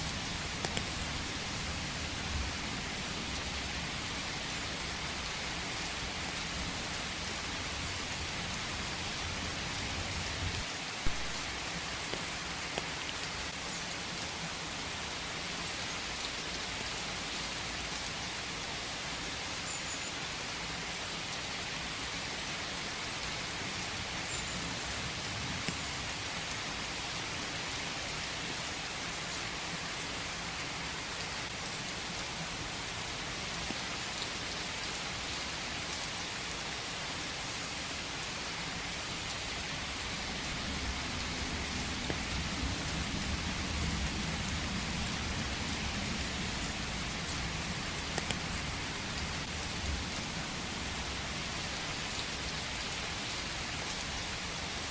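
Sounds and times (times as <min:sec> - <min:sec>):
steady rain in forest: 0:00.0 - 0:54.9.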